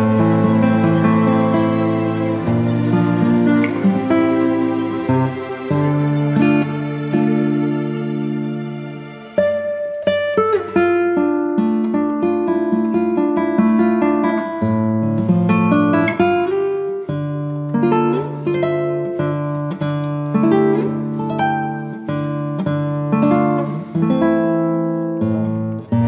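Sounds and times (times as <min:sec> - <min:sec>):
acoustic guitar plucking chords: 0:00.0 - 0:26.0.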